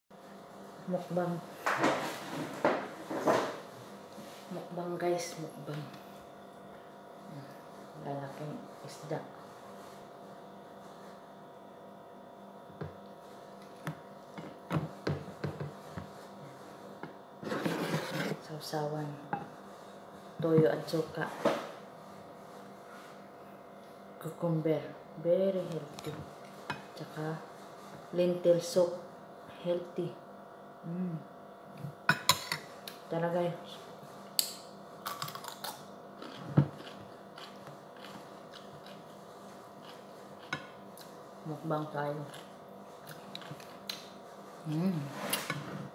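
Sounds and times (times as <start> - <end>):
steady low hum: 0.2 - 45.9.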